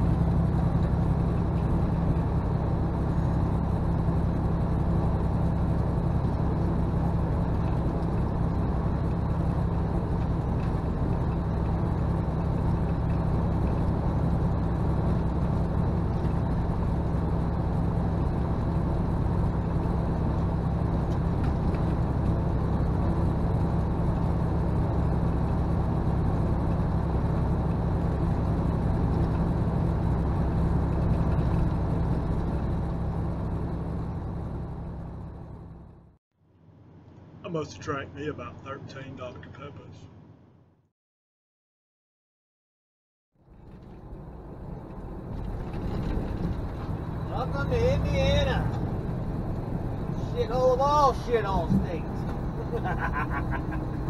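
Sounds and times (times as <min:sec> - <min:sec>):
road noise: 0:00.0 - 0:40.8, 0:43.4 - 0:54.0
diesel truck engine drone: 0:00.0 - 0:40.9, 0:43.4 - 0:54.0.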